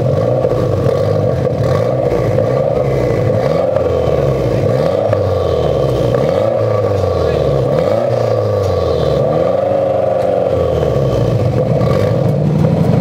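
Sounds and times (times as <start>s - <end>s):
car engine idling: 0.0s - 13.0s
car engine revving: 0.0s - 13.0s.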